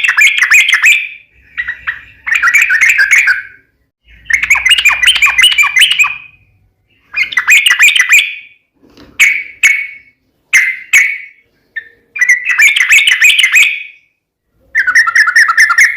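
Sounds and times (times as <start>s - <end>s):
bulbul chattering song: 0.0s - 8.6s, 9.2s - 15.9s.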